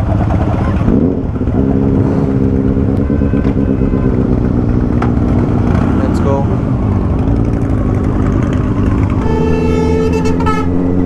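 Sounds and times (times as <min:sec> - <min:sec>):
other motorcycles idling: 0:00.0 - 0:10.6
motorcycle engine starting and idling: 0:00.0 - 0:11.0.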